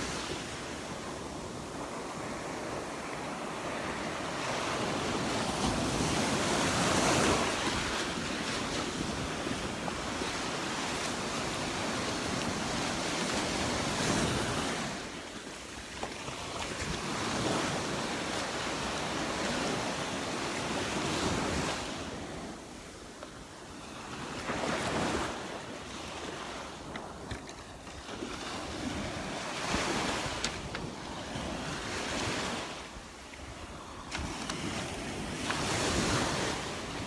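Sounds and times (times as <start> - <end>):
wind noise on microphone: 0.0 - 22.9, 23.8 - 37.0
surf washing onto beach: 0.0 - 37.0.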